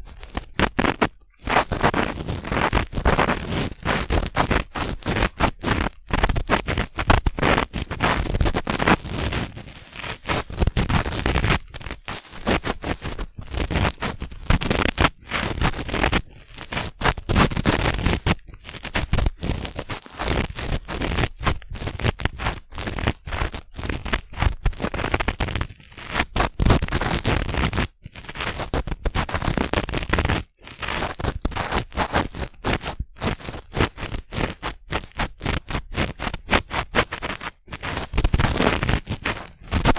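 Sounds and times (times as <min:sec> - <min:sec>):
cotton swabs scratching microphone: 0:00.0 - 0:39.9.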